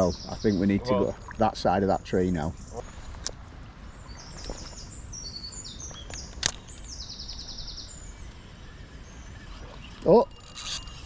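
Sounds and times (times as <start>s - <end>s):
songbird chirping and trilling: 0.0s - 11.0s.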